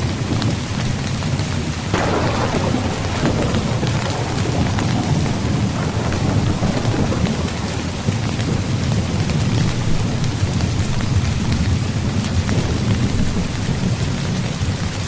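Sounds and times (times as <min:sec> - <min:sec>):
rain falling on a tent: 0:00.0 - 0:15.0
deep rumble of thunder: 0:01.9 - 0:15.0.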